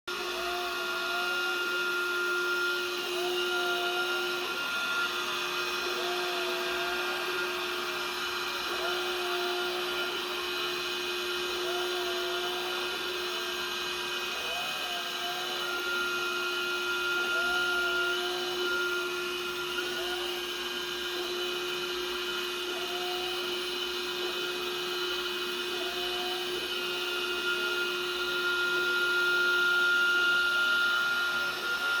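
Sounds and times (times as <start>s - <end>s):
suction motor whine: 0.1s - 32.0s.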